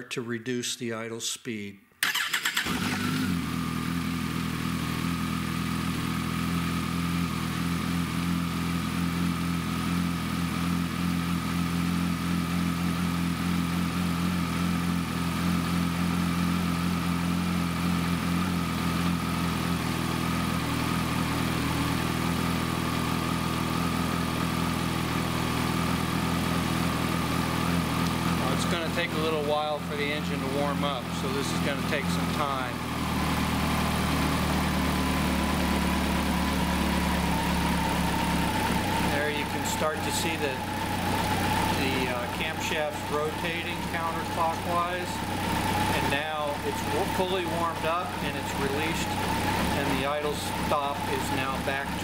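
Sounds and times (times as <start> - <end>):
motorcycle engine fast idle: 2.0 - 52.0.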